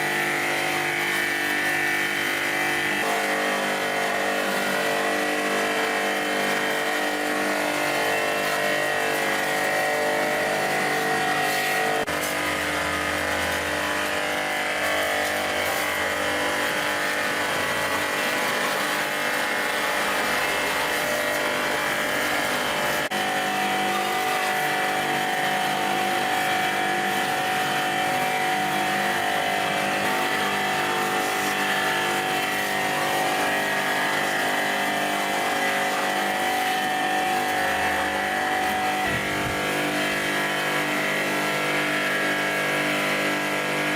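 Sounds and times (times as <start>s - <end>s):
machine humming: 0.0s - 43.9s.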